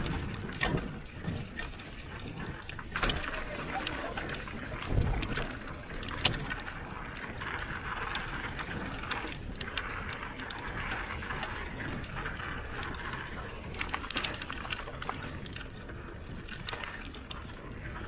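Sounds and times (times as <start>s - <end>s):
bike chain clicks and rattles: 0.0s - 18.0s
tyre and trail noise: 0.0s - 18.0s.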